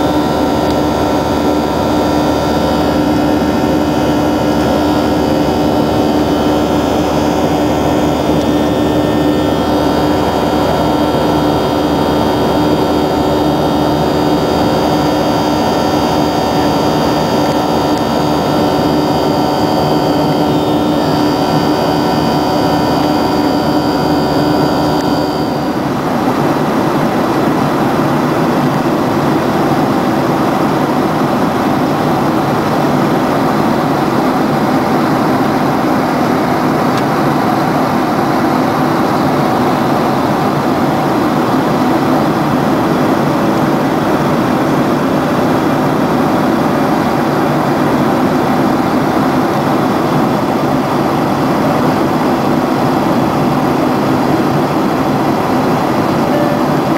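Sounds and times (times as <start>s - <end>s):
jet airliner cabin noise: 0.0s - 56.9s.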